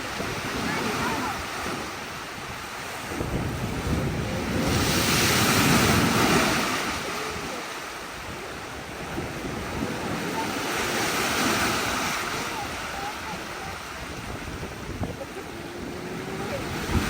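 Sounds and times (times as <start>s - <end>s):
ocean surf washing in: 0.0s - 17.0s
wind buffeting microphone: 0.0s - 17.0s.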